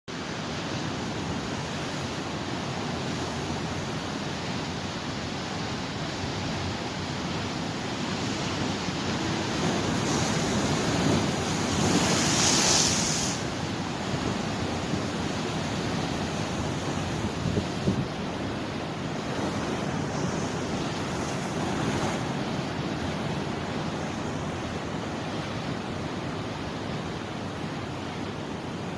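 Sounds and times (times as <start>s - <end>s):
sea waves washing onto shore: 0.1s - 28.9s.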